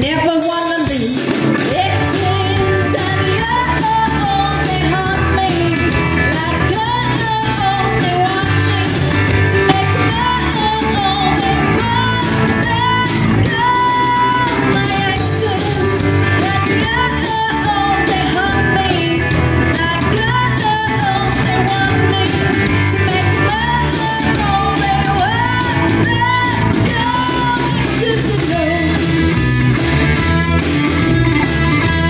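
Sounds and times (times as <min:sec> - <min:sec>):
person singing: 0:00.0 - 0:29.1
drum kit beat: 0:00.0 - 0:32.0
guitar: 0:00.0 - 0:32.0
electric bass: 0:01.1 - 0:32.0.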